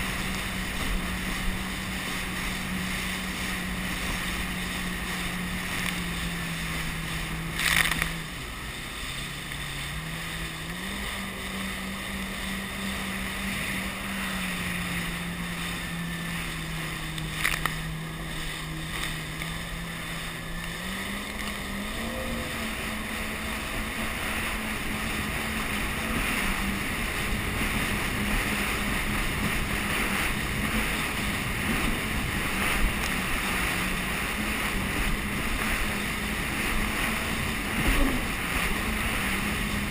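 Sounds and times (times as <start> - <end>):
jet ski engine: 0.0 - 39.9
rush of wind and water: 0.0 - 39.9.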